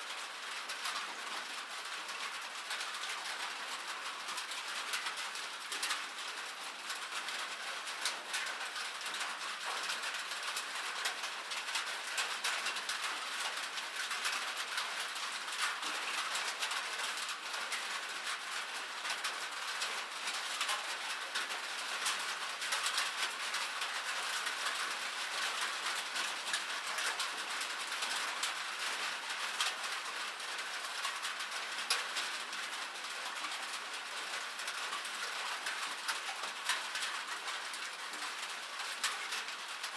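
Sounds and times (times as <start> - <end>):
light rain patter: 0.0 - 39.9.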